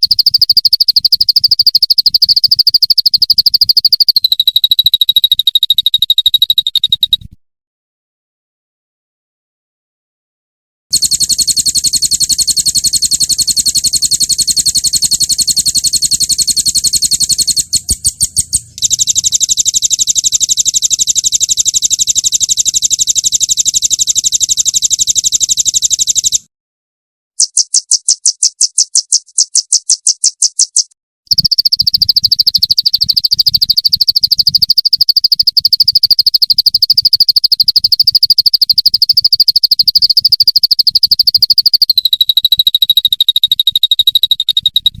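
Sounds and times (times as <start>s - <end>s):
songbird rapid trills: 0.0s - 7.3s, 10.9s - 26.4s, 27.4s - 45.0s.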